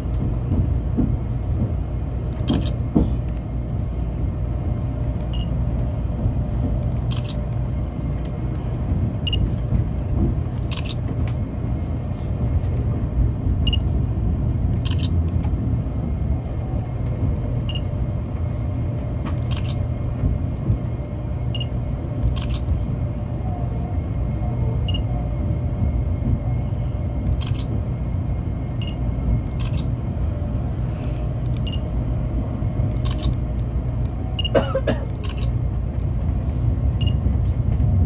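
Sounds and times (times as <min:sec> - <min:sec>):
train running rumble: 0:00.0 - 0:38.0.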